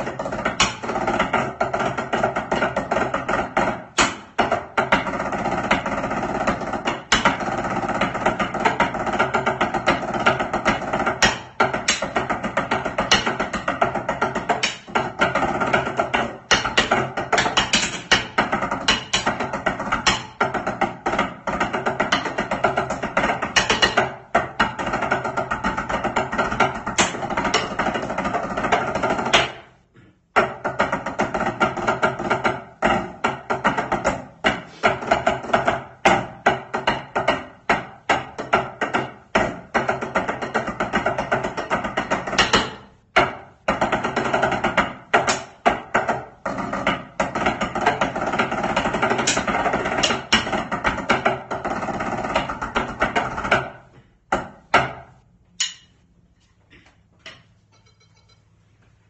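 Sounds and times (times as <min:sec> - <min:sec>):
sticks striking practice pads: 0:00.0 - 0:56.0
percussion track: 0:00.0 - 0:56.1, 0:57.3 - 0:58.6.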